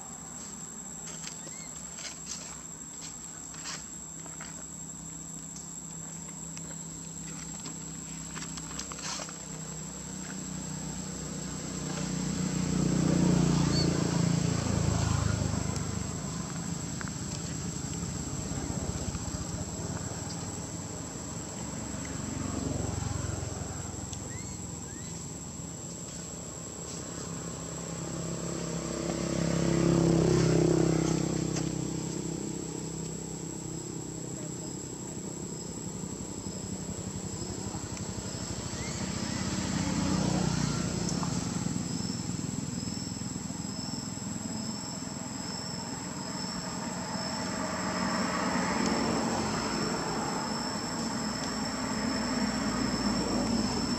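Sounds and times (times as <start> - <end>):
insects droning: 0.0 - 53.9
vehicle engine passing: 7.4 - 53.9.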